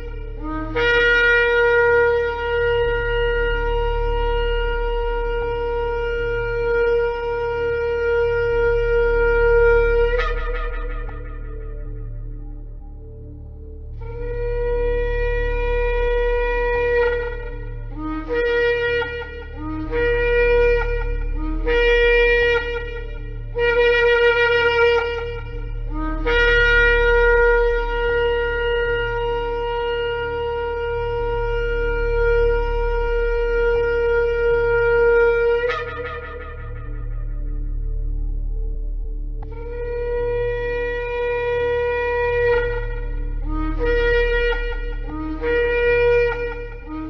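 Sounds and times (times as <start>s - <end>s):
shofar blasts: 0.0s - 47.0s
steady low hum: 0.0s - 47.0s.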